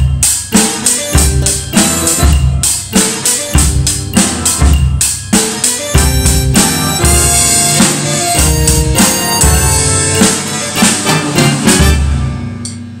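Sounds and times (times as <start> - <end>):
drum kit with cymbal crashes: 0.0 - 13.0
music track: 0.0 - 13.0.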